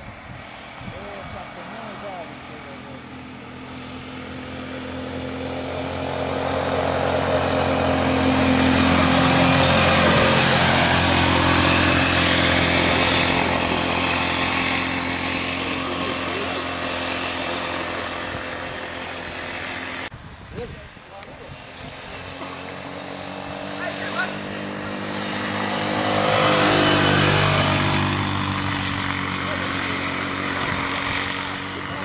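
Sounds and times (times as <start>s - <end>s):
atv engine passing by: 0.0s - 20.1s, 21.6s - 32.0s.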